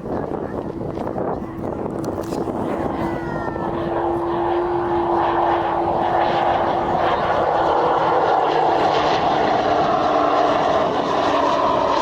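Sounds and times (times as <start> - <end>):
airliner engines roaring: 0.0 - 12.0.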